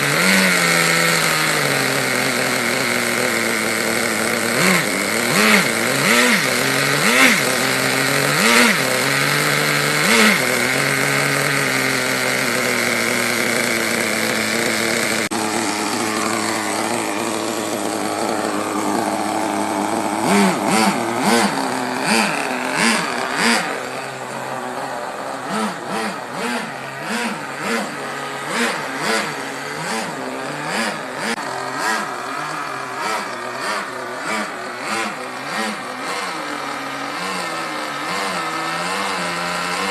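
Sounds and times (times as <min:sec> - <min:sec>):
small nitro engine revving: 0:00.0 - 0:39.9.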